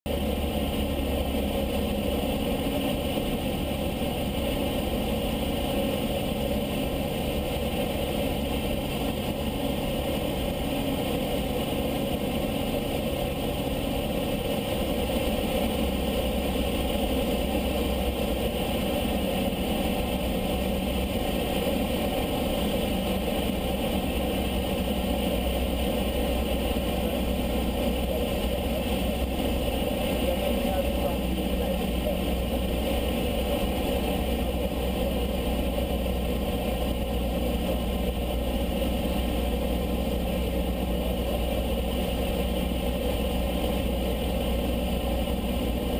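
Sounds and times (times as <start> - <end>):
propeller plane engine droning: 0.1 - 45.9.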